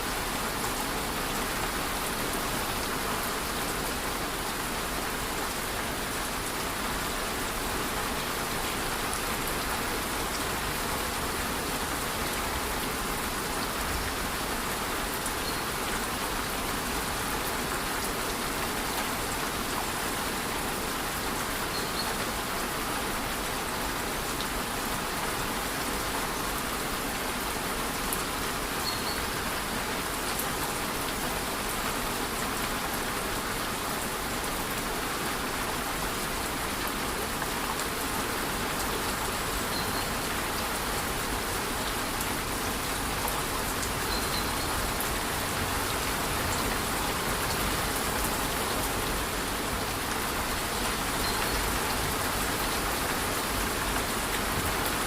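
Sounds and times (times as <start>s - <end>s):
light rain: 0.0s - 55.0s.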